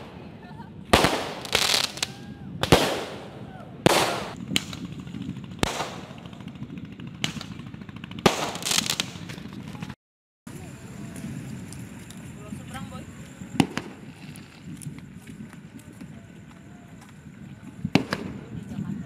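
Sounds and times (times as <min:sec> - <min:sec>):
fireworks bangs with crackle: 0:00.0 - 0:09.9, 0:10.6 - 0:19.0.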